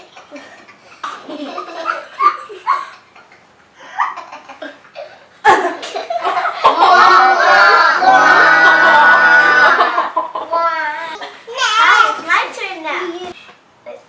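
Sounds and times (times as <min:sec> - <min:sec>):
child laughing and giggling: 0:00.0 - 0:12.2.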